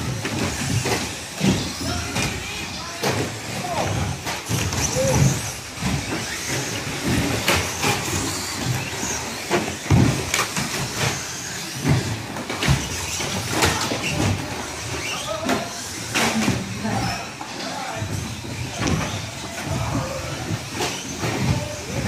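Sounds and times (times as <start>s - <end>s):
tyre noise: 0.0s - 22.0s.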